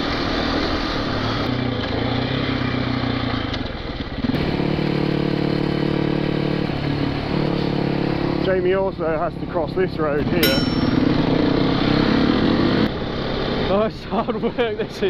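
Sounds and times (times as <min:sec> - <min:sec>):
dirt bike engine on rough track: 0:00.0 - 0:13.7
motorcycle engine cruising steadily: 0:00.0 - 0:15.0.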